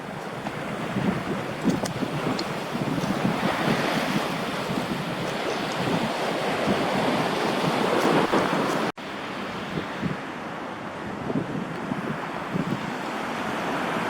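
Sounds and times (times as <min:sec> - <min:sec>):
surf washing ashore: 0:00.0 - 0:14.0
wind buffeting microphone: 0:00.0 - 0:14.0.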